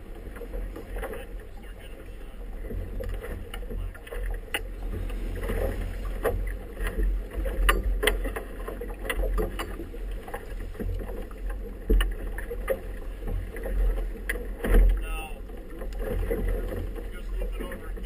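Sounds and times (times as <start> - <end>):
waves slapping boat hull: 0.0 - 18.0.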